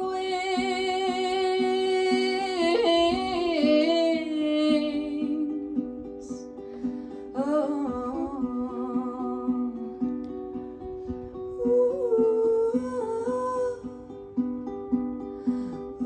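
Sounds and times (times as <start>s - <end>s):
person singing: 0.0s - 14.5s
plucked string accompaniment: 0.0s - 16.0s.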